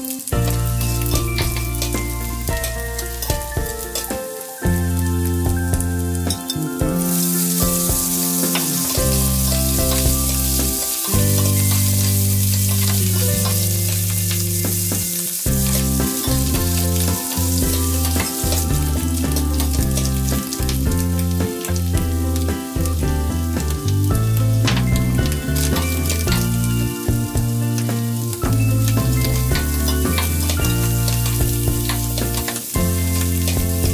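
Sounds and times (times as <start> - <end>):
food sizzling in butter: 0.0 - 33.9
low sustained music tones: 0.0 - 33.9.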